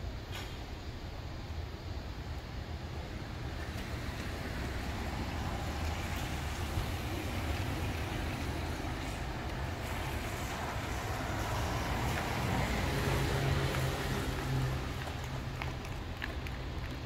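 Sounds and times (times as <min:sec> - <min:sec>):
traffic on wet road: 0:02.0 - 0:17.0
car passing on wet asphalt: 0:02.8 - 0:17.0.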